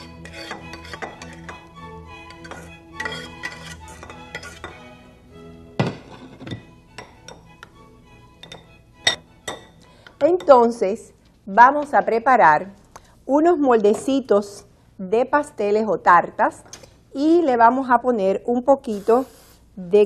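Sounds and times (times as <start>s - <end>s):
soft background music: 0.0s - 19.1s.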